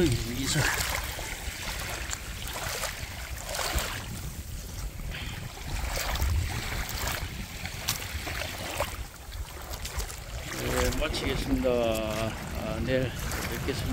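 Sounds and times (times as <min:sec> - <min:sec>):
waves washing over pebbles: 0:00.0 - 0:13.9
wind rumbling on microphone: 0:00.0 - 0:13.9.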